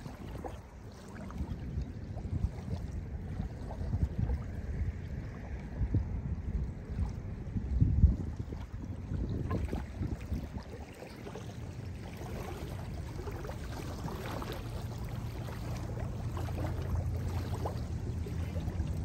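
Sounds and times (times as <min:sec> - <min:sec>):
low steady rumble: 0:00.0 - 0:19.0
waves lapping on sandy shore: 0:00.0 - 0:19.0.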